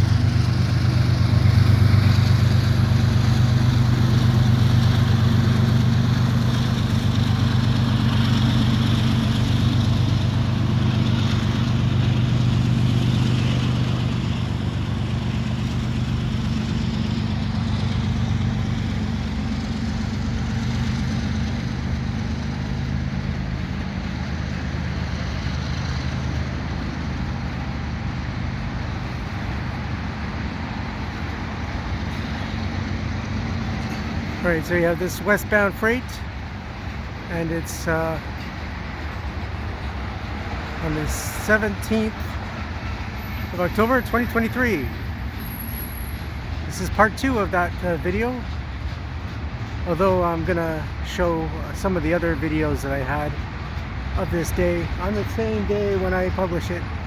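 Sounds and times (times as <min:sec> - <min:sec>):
diesel locomotives droning: 0:00.0 - 0:57.0
moving train rumble: 0:00.0 - 0:57.0.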